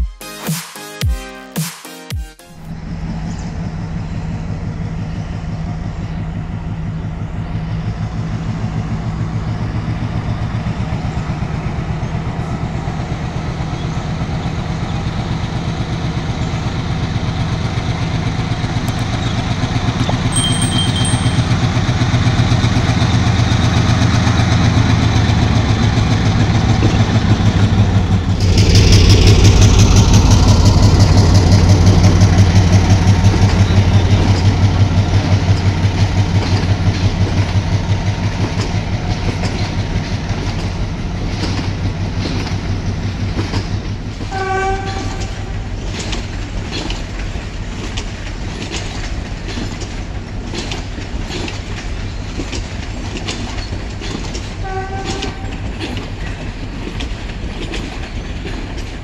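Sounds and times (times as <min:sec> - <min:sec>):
diesel locomotive engine throbbing: 0:02.5 - 0:59.0.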